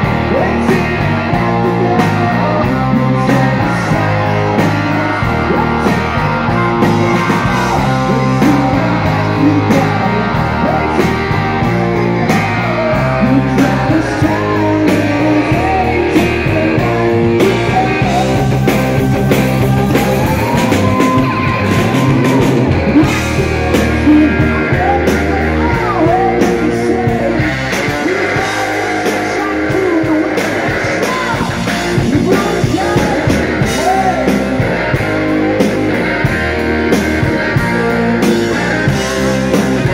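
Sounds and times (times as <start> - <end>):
electric guitar bending notes: 0.0 - 39.9
rock music: 0.0 - 39.9
steady drum beat: 0.0 - 39.9.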